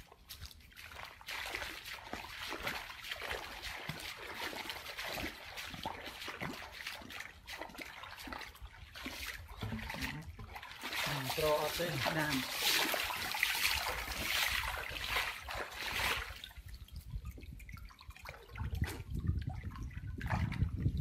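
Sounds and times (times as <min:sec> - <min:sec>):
water splashing and trickling: 0:00.0 - 0:21.0.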